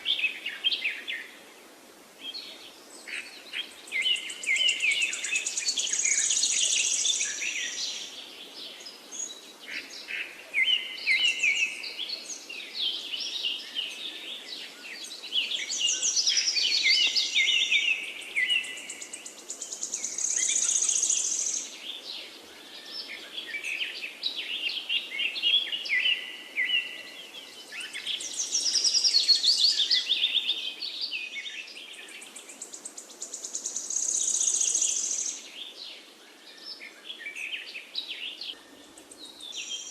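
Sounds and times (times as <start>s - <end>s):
faint background hiss: 0.0s - 39.9s
wild birds chirping: 0.0s - 39.9s.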